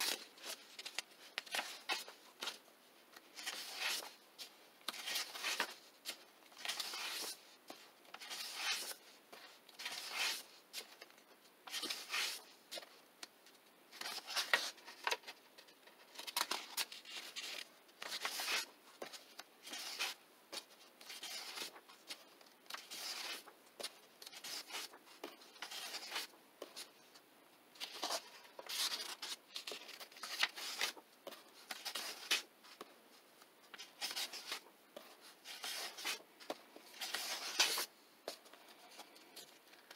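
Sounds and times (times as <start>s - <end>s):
paper pages turning: 0.0s - 2.6s, 3.2s - 13.0s, 13.9s - 27.2s, 27.8s - 32.9s, 33.7s - 39.9s.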